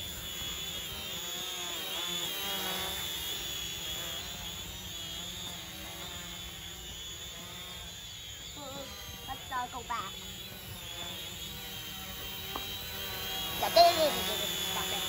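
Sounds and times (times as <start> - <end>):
toy drone propellers buzzing: 0.0 - 15.0.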